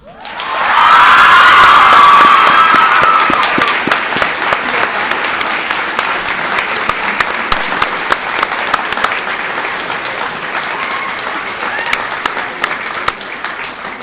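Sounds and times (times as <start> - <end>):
audience applauding: 0.0 - 14.0
crowd cheering: 0.0 - 14.0.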